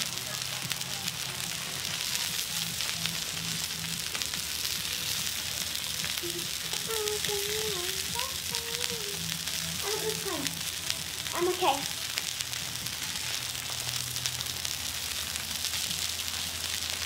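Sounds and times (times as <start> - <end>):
meat sizzling on hotplate: 0.0 - 17.0.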